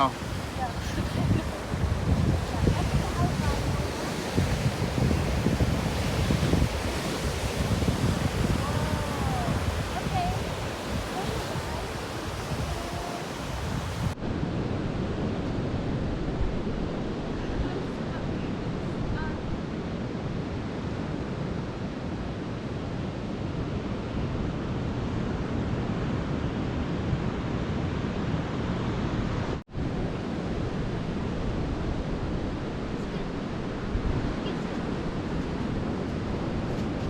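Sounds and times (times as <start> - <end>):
ocean surf washing: 0.0 - 37.0
wind buffeting microphone: 0.0 - 37.0.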